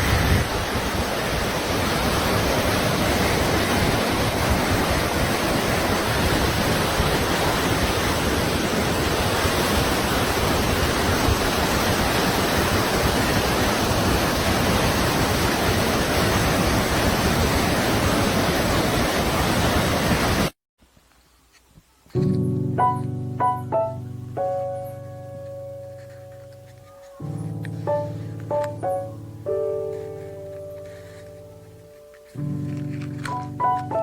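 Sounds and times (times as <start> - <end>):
waterfall rushing: 0.0 - 20.5, 22.8 - 34.0.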